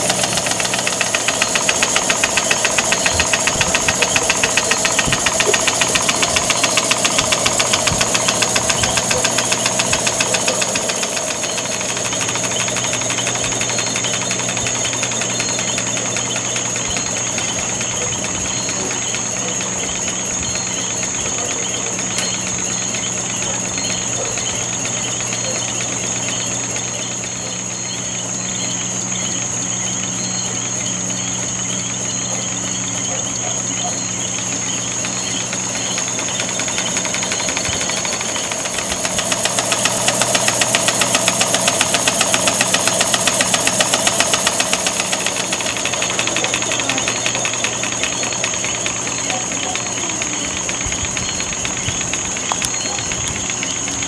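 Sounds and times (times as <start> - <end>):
engine exhaust beating: 0.0 - 54.0
steady high whine: 0.0 - 54.0.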